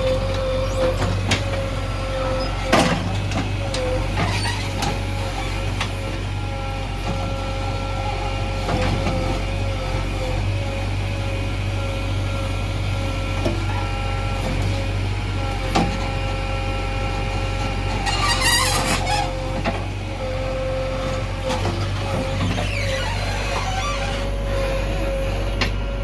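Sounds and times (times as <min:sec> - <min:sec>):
diesel engine running: 0:00.0 - 0:26.0
hydraulic whine: 0:00.0 - 0:26.0.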